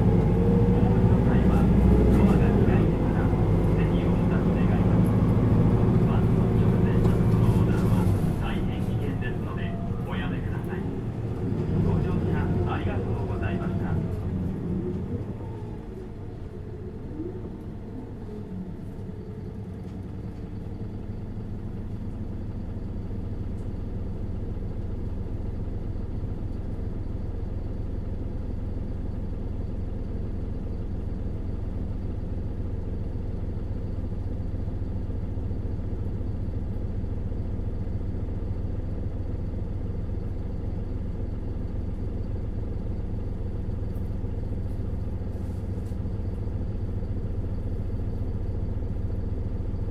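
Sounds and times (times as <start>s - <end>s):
bus engine humming inside cabin: 0.0s - 49.9s.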